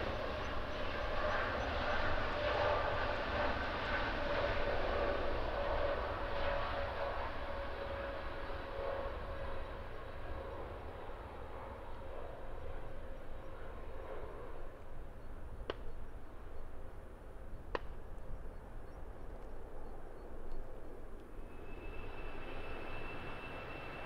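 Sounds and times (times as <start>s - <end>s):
high jet engine whine: 0.0s - 24.0s
jet engines rumbling: 0.0s - 24.0s.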